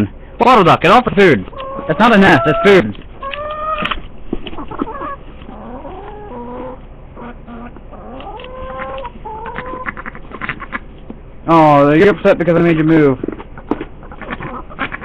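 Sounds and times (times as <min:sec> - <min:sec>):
hens clucking and calling: 0:01.0 - 0:11.2, 0:12.3 - 0:15.0.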